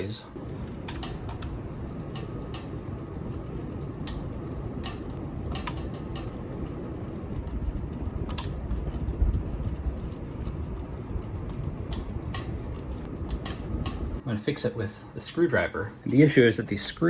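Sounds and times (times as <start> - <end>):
ceiling fan air whoosh: 0.0 - 17.0
sharp clicks from fan: 0.4 - 14.2.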